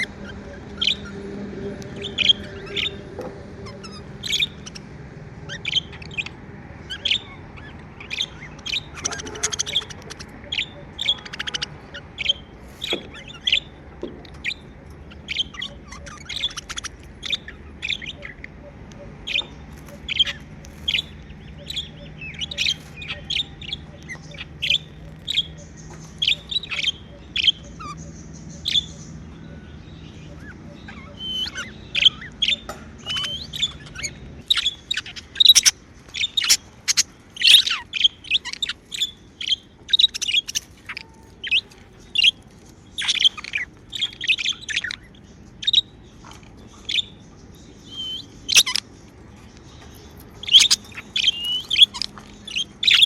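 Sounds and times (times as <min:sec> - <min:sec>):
bird warbling calls: 0:00.0 - 0:53.0
budgerigars chirping: 0:00.0 - 0:53.0.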